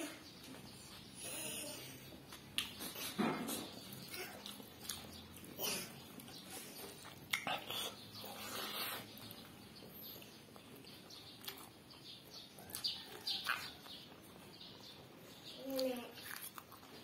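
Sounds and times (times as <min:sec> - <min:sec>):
person chewing with wet smacks: 0:02.1 - 0:14.5, 0:15.7 - 0:17.0.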